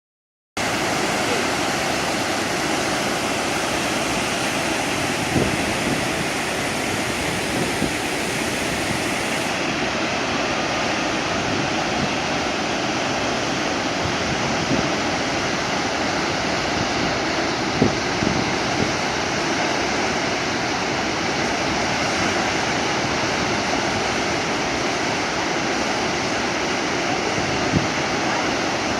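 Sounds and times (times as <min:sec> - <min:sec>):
waterfall pouring: 0:00.6 - 0:28.8.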